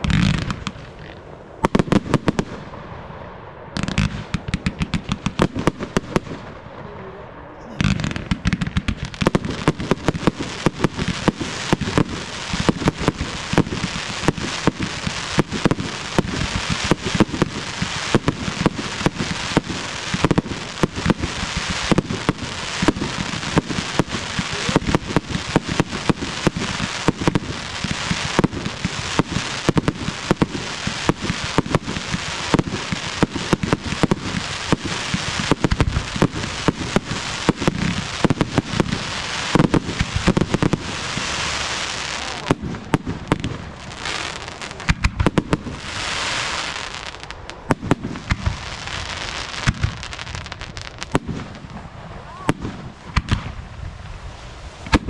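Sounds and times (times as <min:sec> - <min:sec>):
firework launch pops and bangs: 0:00.0 - 0:02.8, 0:03.8 - 0:06.4, 0:07.8 - 0:54.2, 0:54.8 - 0:55.0
fireworks hissing and crackling: 0:00.0 - 0:55.0.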